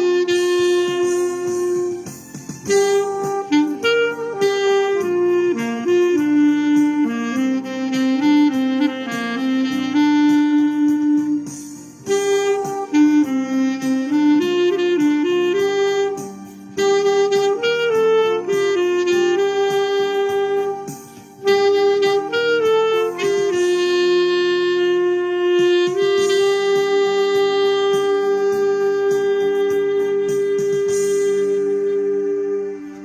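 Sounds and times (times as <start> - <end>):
backing track music: 0.0 - 33.0
clarinet melody: 0.0 - 33.0.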